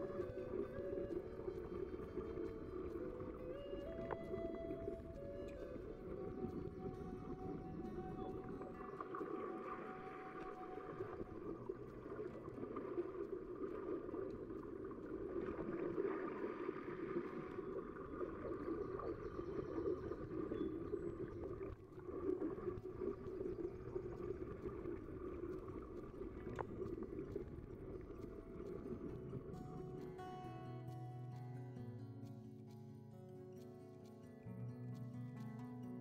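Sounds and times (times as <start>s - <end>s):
muffled water sloshing and gurgling: 0.0s - 30.2s.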